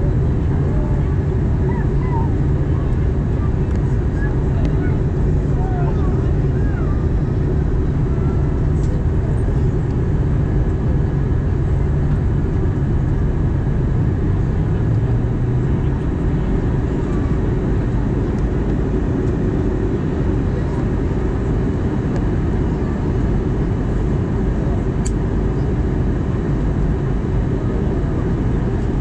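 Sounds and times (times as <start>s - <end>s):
jet engine cabin rumble: 0.0s - 29.0s.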